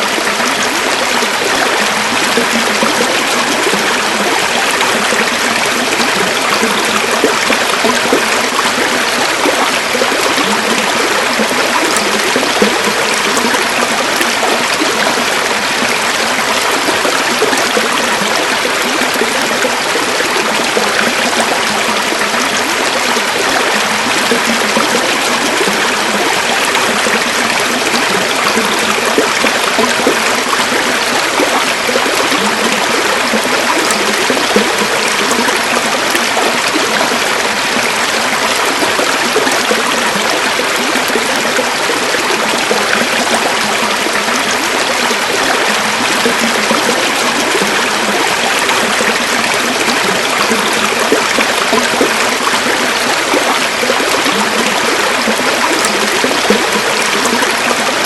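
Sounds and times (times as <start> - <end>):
river water babbling over stones: 0.0 - 58.0.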